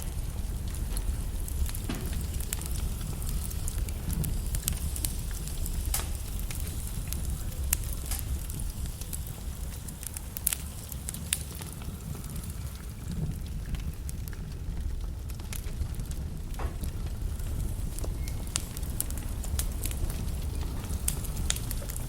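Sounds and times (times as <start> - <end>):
fire crackling and popping: 0.0 - 22.0
low noise of flames: 0.0 - 22.0.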